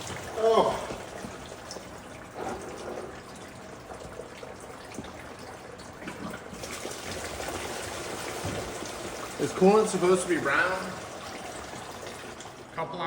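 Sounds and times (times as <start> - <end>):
liquid pouring into a bin: 0.0 - 12.8.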